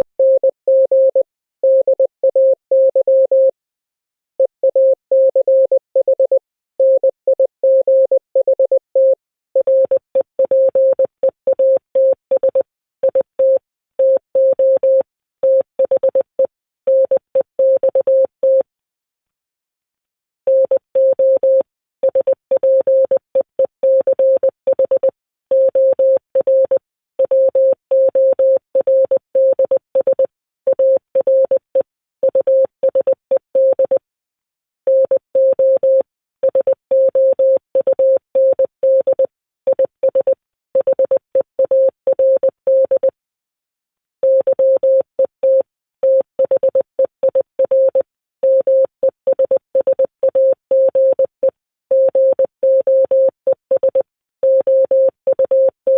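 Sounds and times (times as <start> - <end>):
fast morse code tone: 4.4 - 18.7, 20.5 - 34.0, 34.9 - 43.2, 44.2 - 55.9.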